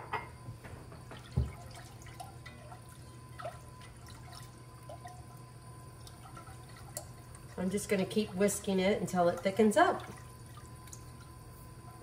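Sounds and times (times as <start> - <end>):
whisk sloshing liquid: 1.1 - 11.4.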